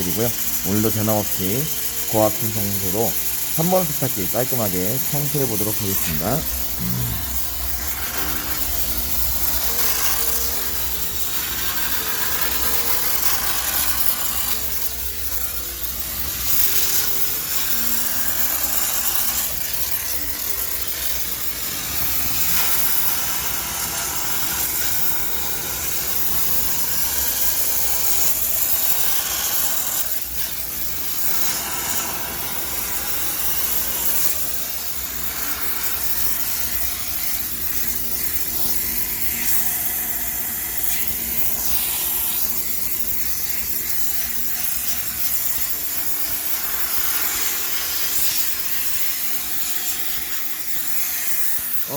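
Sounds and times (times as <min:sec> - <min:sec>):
steam cleaner hissing: 0:00.0 - 0:51.9.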